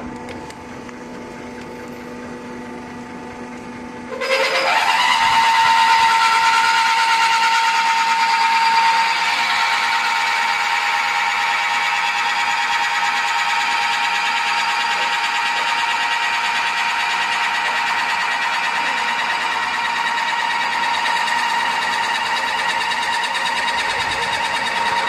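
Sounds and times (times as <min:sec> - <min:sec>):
metal-cutting squeal: 0:04.1 - 0:25.0.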